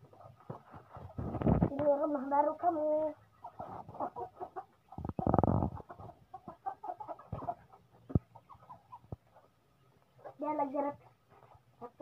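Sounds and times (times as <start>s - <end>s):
waterhen clucking calls: 0.0s - 12.0s.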